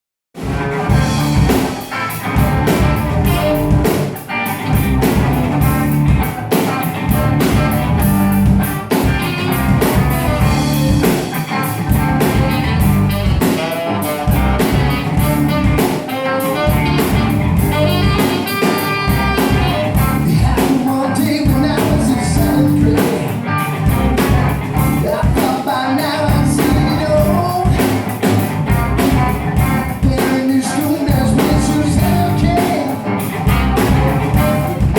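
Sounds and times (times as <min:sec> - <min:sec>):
rock band music: 0:00.4 - 0:34.9.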